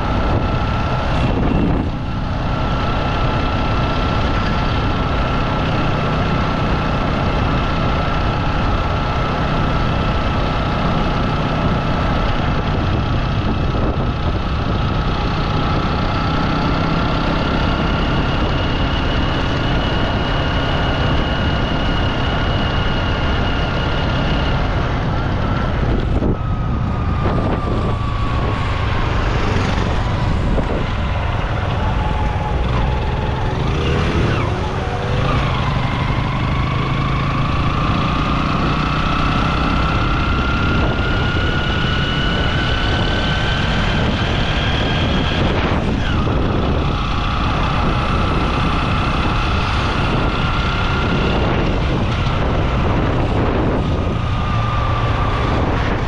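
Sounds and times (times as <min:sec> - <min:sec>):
heavy low rumble: 0:00.0 - 0:38.8, 0:39.9 - 0:56.0
engine running: 0:00.0 - 0:56.0.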